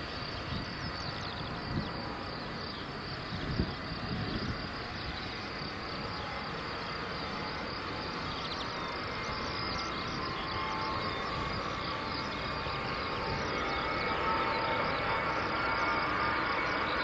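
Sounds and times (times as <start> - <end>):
jet engines taxiing: 0.0 - 17.0.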